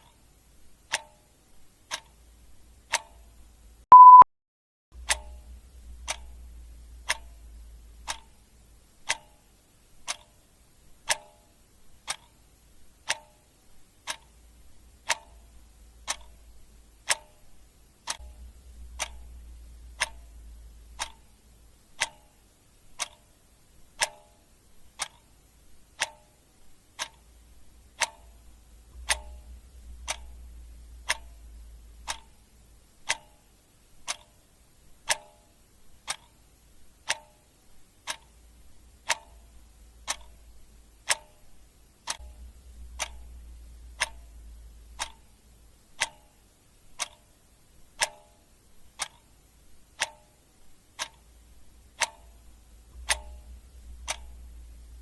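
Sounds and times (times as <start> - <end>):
clock ticking: 0.0 - 4.2, 5.0 - 55.0
faint low hum: 5.0 - 55.0.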